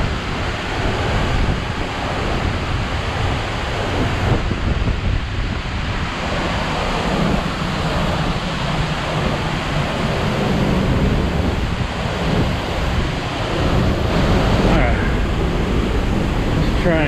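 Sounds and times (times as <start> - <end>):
waterfall rushing: 0.0 - 17.0
wind buffeting microphone: 0.0 - 17.0.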